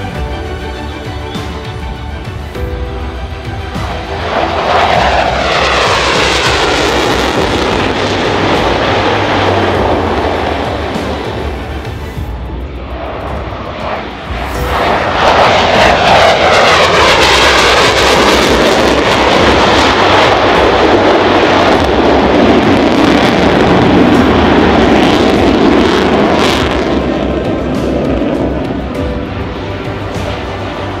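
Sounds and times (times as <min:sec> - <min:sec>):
jet roar flying past: 0:00.0 - 0:31.0.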